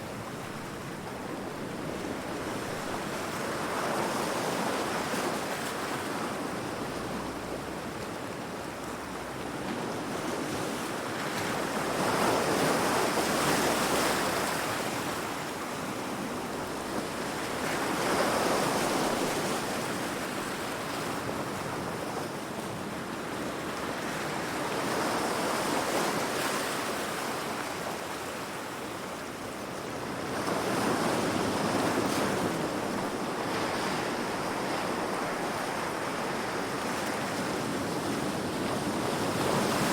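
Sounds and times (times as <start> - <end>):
ocean waves breaking on rocks: 0.2 - 39.9.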